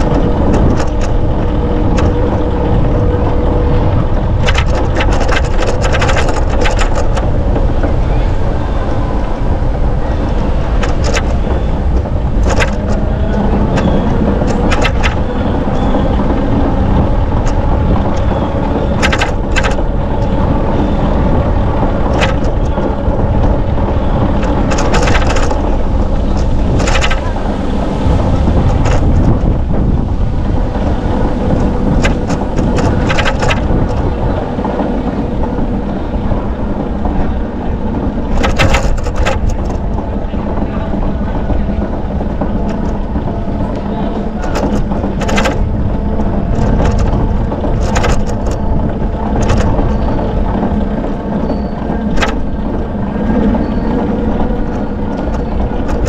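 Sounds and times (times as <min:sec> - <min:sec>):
bicycle tyres rolling: 0:00.0 - 0:56.0
bike clicks and rattles: 0:00.0 - 0:56.0
wind on microphone: 0:00.0 - 0:56.0.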